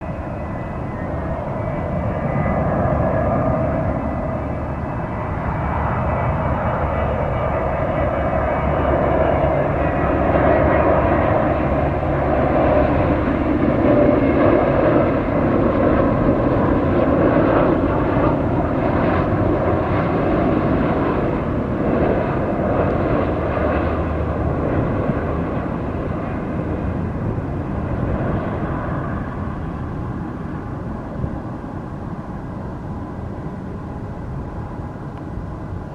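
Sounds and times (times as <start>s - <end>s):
jet engine rushing: 0.0s - 35.9s.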